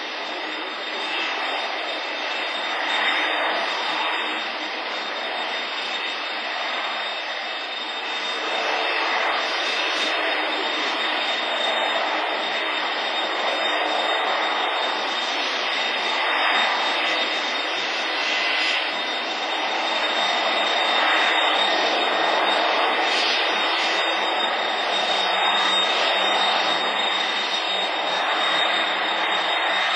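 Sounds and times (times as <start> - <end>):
jet engines rushing with whine: 0.0 - 29.9.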